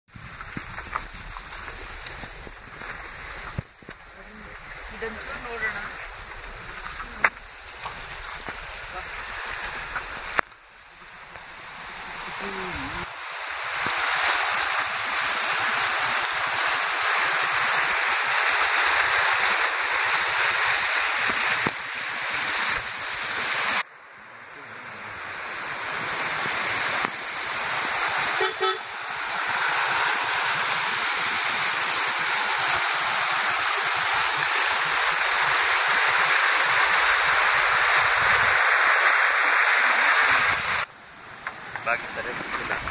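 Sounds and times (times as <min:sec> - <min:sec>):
fast stream rushing: 0:00.1 - 0:24.1, 0:24.7 - 0:42.9.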